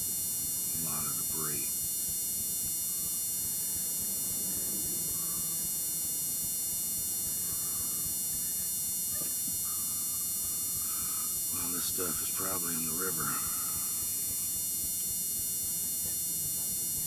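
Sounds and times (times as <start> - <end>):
high electrical whine: 0.0 - 17.0.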